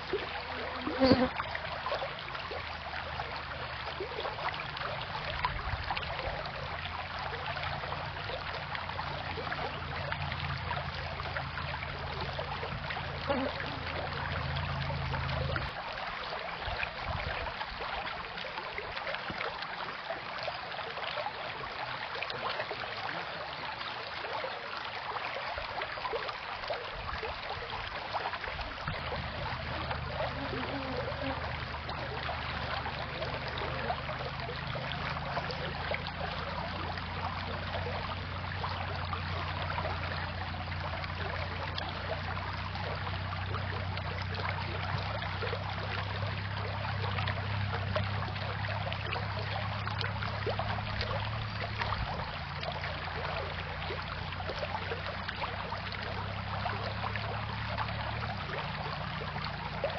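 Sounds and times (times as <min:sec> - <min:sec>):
creek babbling over pebbles: 0:00.0 - 0:59.9.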